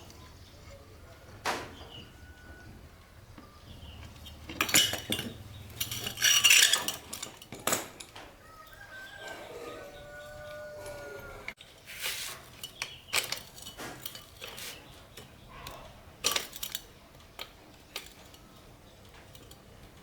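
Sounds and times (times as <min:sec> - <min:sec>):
metal tools clanking: 0:00.0 - 0:20.0.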